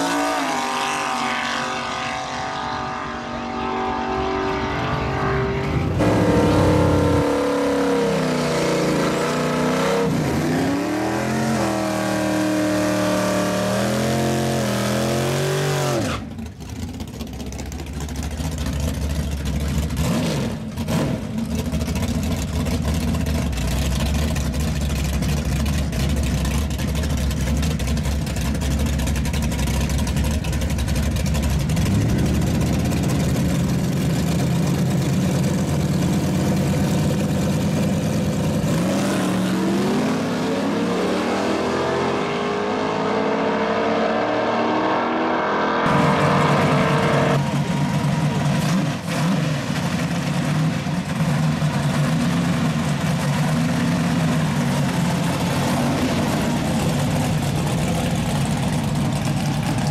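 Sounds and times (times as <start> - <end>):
race car engine revving: 0.0 - 24.6, 27.8 - 59.9.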